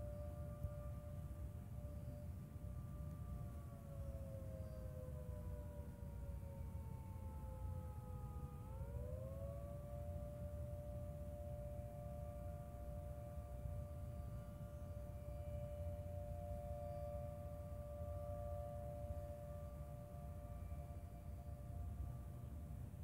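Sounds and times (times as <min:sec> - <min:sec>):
siren two-note tone: 0:00.0 - 0:23.0.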